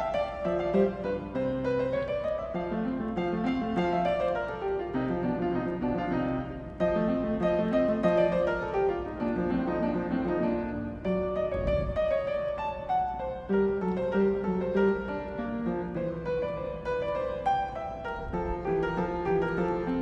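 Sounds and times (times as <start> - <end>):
piano melody with bass line: 0.0 - 20.0.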